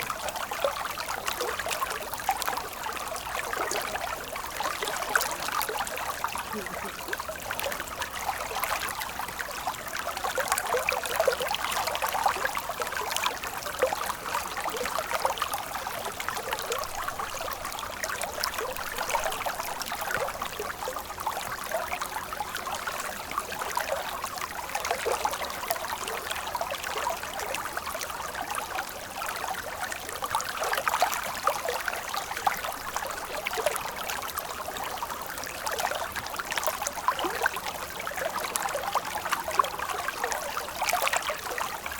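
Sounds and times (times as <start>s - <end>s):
stream water babbling: 0.0s - 41.9s.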